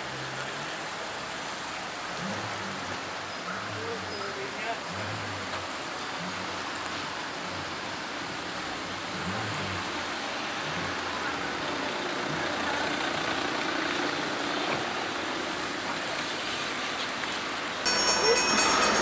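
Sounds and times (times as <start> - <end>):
cars driving slowly past: 0.0 - 19.0.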